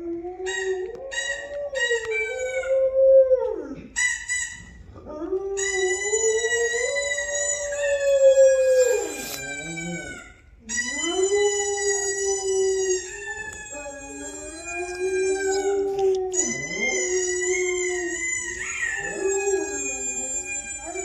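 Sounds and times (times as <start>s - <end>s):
dog howling: 0.0s - 3.9s, 5.0s - 21.0s
recorded howling played back: 0.0s - 21.0s.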